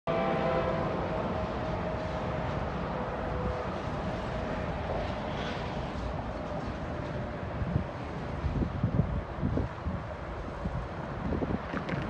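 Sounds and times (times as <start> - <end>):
distant diesel locomotives rumbling: 0.1 - 12.0.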